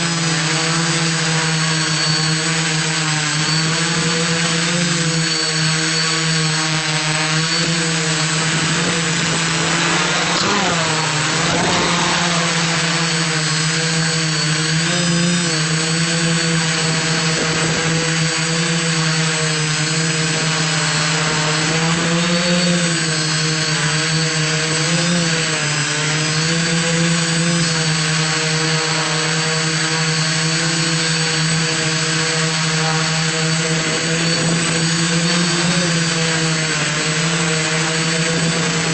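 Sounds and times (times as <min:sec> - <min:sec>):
quadcopter propellers humming: 0:00.0 - 0:38.9.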